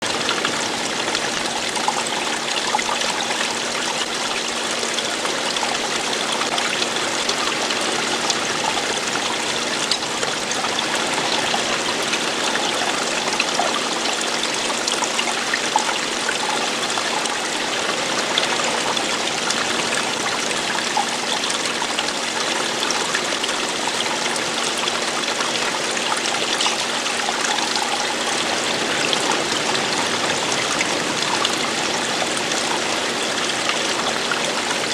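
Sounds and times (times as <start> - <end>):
stream flowing and splashing: 0.0 - 34.9.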